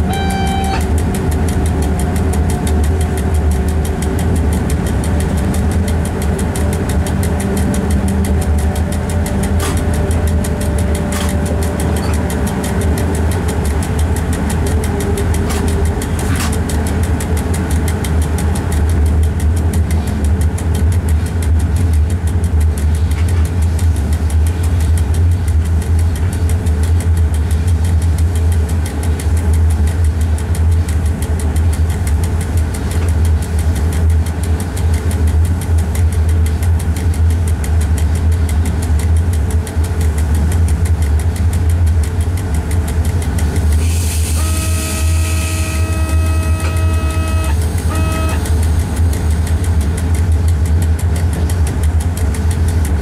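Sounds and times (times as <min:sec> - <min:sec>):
steady hum: 0:00.0 - 0:53.0
train rumbling: 0:00.0 - 0:53.0.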